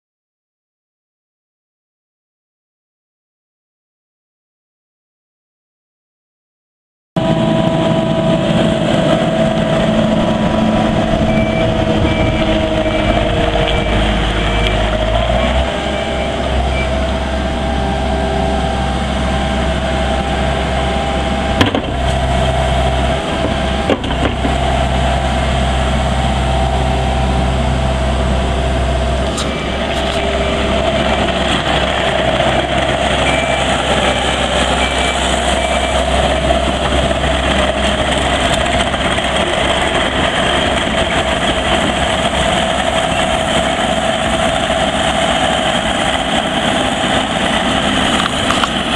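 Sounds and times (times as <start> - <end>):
diesel engine running: 7.2 - 48.9.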